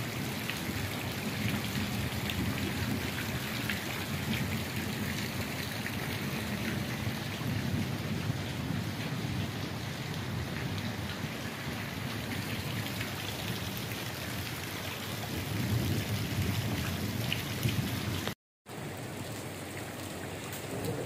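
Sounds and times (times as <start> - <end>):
heavy rain on water and paving: 0.0 - 21.0.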